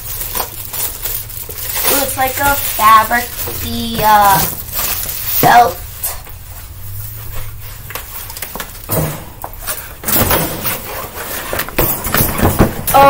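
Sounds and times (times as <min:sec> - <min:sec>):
plastic fabric rustling and flapping: 0:00.0 - 0:13.0.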